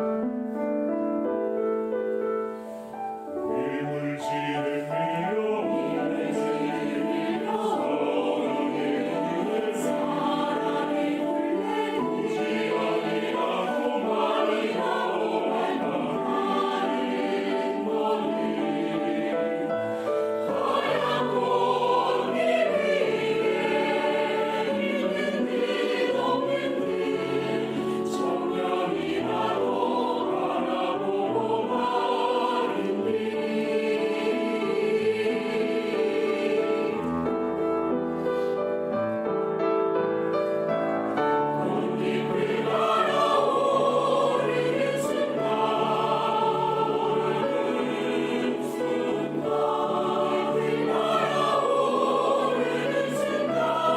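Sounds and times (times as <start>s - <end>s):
mixed choir singing in harmony: 0.0s - 39.3s, 40.2s - 53.9s.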